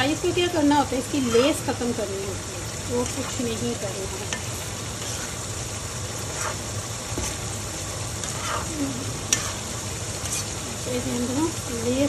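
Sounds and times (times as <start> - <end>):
okra sizzling in oil: 0.0 - 12.0.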